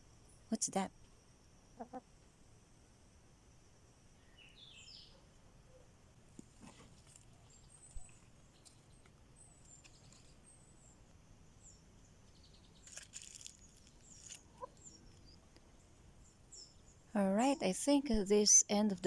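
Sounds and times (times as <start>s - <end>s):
small birds chirping: 0.0s - 2.6s, 4.1s - 19.0s.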